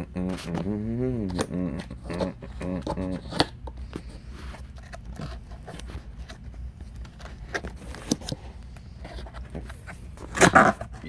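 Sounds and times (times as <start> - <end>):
low rumble of hand handling: 0.0 - 11.0.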